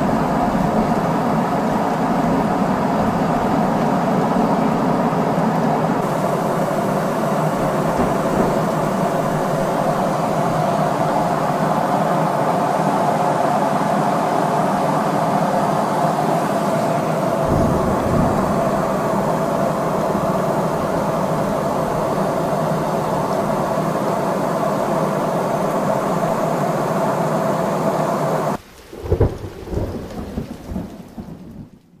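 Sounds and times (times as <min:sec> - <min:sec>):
airliner cabin roar: 0:00.0 - 0:31.8.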